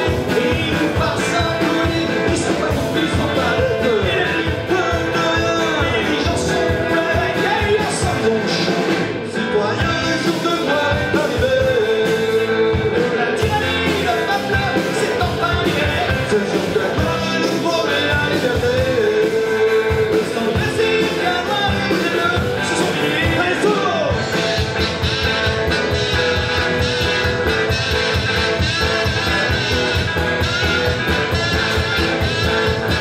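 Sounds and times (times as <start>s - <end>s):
guitar: 0.0s - 33.0s
rock song with singing: 0.0s - 33.0s
steady drum beat: 0.0s - 33.0s.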